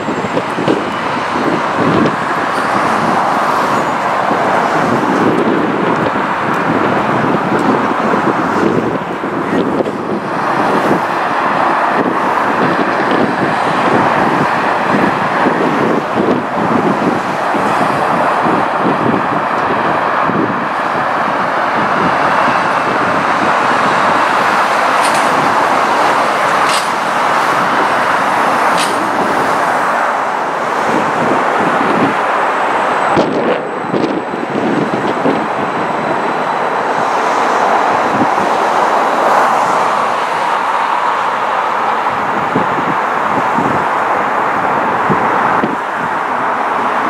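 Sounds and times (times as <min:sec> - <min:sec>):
freeway traffic noise: 0:00.0 - 0:47.0.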